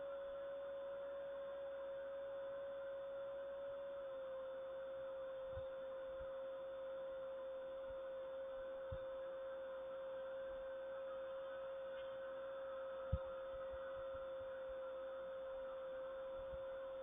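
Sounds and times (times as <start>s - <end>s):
steady single-pitched hum: 0.0s - 17.0s.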